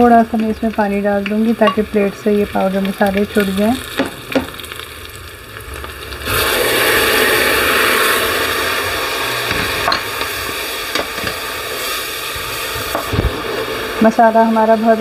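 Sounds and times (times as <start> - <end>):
loud sizzle in hot oil: 0.0 - 15.0.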